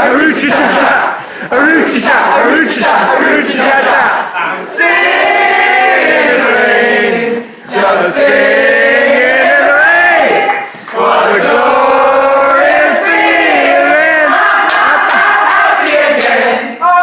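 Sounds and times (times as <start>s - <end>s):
group singing long notes: 0.0s - 17.0s.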